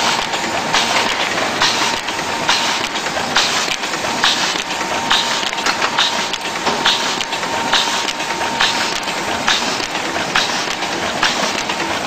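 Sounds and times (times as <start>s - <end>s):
mechanical clatter: 0.0s - 12.0s
printing press feed clacking: 0.0s - 12.0s.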